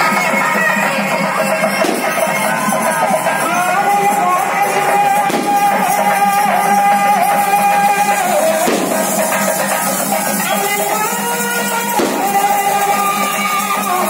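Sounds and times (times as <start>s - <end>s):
percussion: 0.0s - 14.0s.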